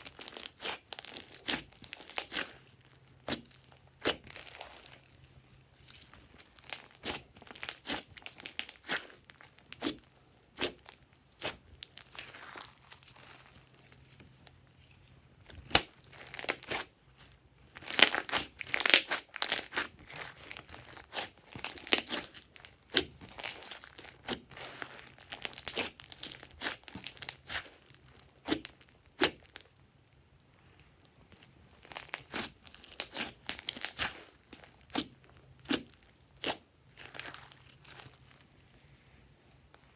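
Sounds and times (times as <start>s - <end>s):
slime crackling and popping: 0.0s - 14.6s, 15.4s - 38.4s.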